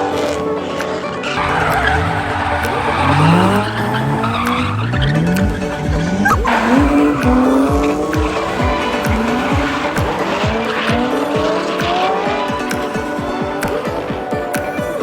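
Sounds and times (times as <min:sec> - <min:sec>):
tyres squealing: 0:01.3 - 0:14.1
car engine revving: 0:01.3 - 0:14.3
music with steady beat: 0:01.4 - 0:15.0.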